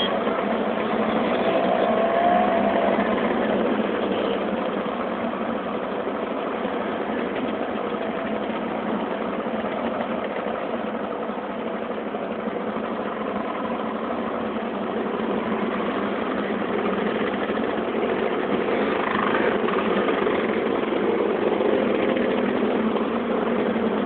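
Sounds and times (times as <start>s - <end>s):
motor scooter engines passing: 0.0s - 24.0s.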